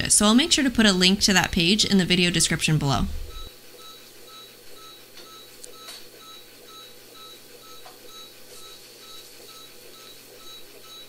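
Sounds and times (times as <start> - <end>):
vital signs monitor beeping: 0.0 - 11.0.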